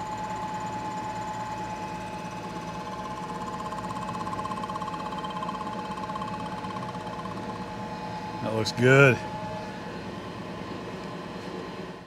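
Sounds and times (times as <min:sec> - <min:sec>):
milling machine whine: 0:00.0 - 0:12.0.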